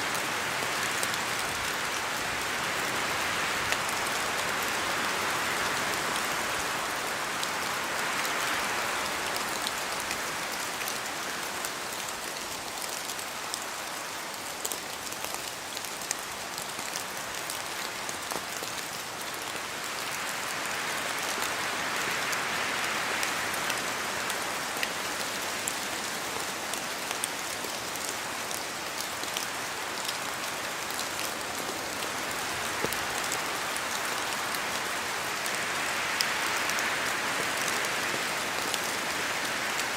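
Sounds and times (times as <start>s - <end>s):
rain hissing in forest: 0.0s - 39.9s
wind gusting through trees: 0.0s - 39.9s.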